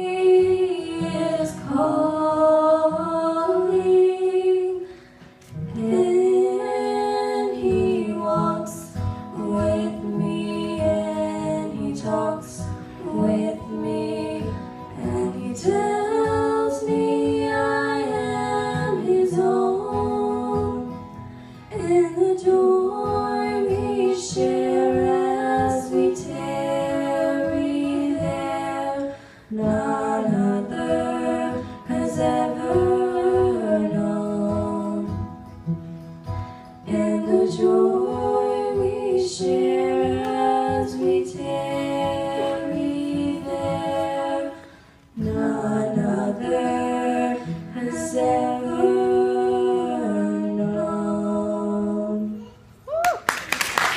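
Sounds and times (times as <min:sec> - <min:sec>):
girls singing a hymn: 0:00.0 - 0:35.8, 0:36.8 - 0:52.7.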